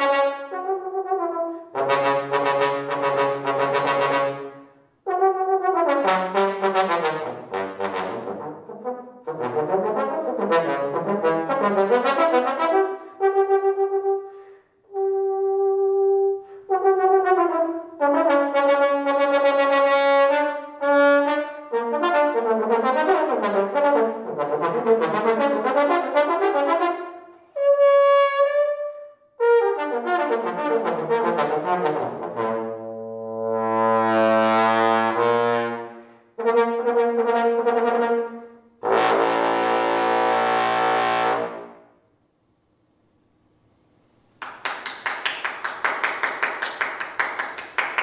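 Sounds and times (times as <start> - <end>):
solo trombone: 0.0 - 41.9.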